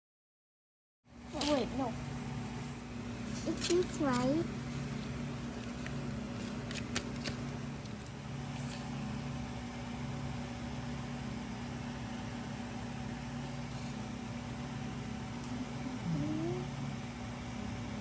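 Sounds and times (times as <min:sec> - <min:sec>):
low mechanical hum: 0:01.1 - 0:18.0.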